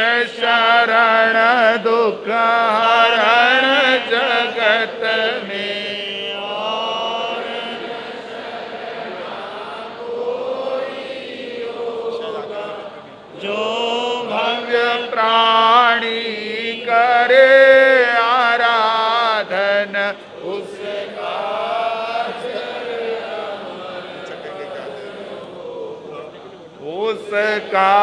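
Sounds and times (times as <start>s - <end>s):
devotional chanting: 0.0s - 28.0s.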